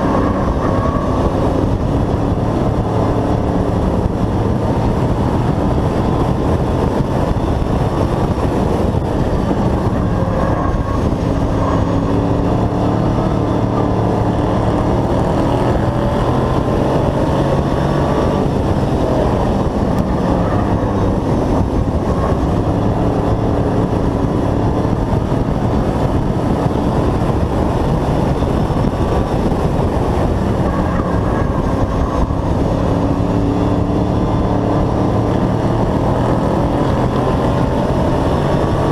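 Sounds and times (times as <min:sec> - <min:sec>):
race truck engine running hard: 0:00.0 - 0:38.9.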